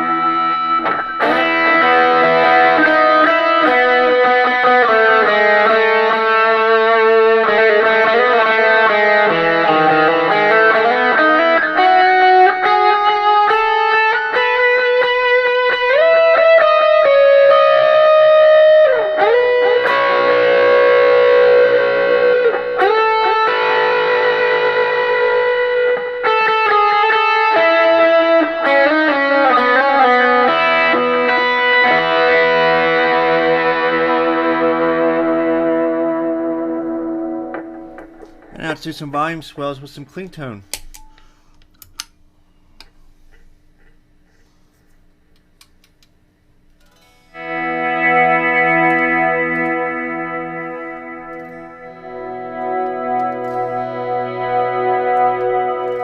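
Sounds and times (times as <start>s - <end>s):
distorted electric guitar: 0.0s - 40.9s, 46.7s - 56.0s.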